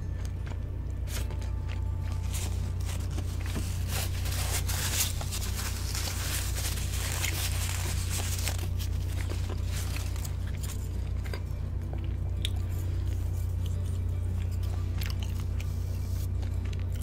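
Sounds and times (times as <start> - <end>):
crunchy chewing of fried chicken: 0.0 - 17.0
steady low hum: 0.0 - 17.0.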